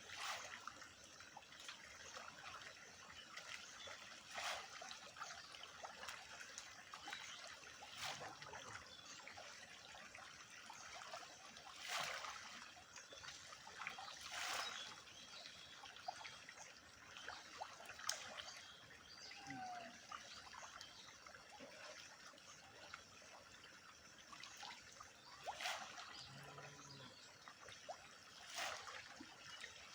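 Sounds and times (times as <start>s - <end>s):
water trickling: 0.4s - 29.9s.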